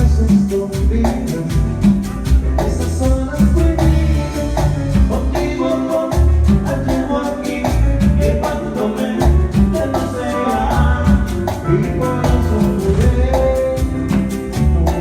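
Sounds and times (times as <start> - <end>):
loud latin dance music: 0.0 - 15.0
person singing: 0.0 - 15.0.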